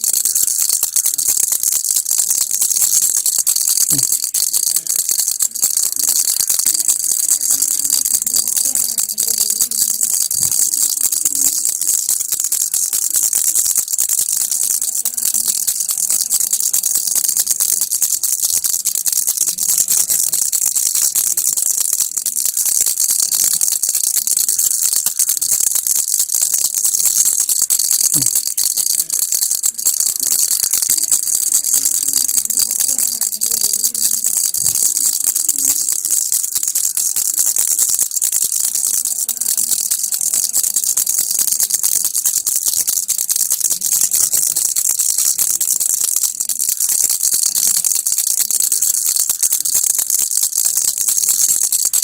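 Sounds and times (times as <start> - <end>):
baby rattle shaking: 0.0 - 52.0.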